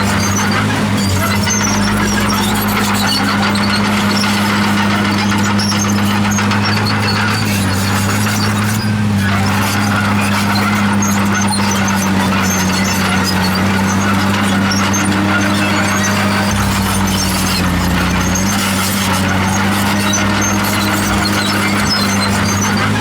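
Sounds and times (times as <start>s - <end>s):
bulldozer diesel engine humming: 0.0s - 23.0s
steel tracks squealing: 0.0s - 23.0s.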